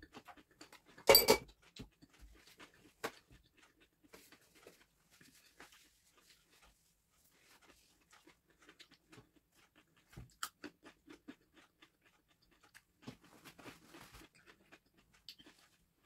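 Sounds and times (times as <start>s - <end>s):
crunching and chewing snack: 0.0s - 16.0s.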